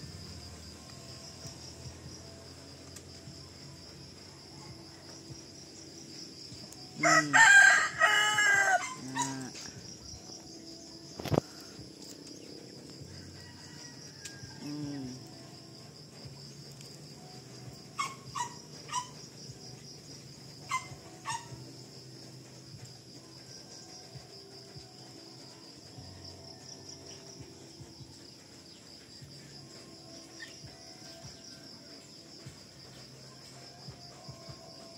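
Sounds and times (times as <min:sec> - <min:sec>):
insects trilling chorus: 0:00.0 - 0:34.9.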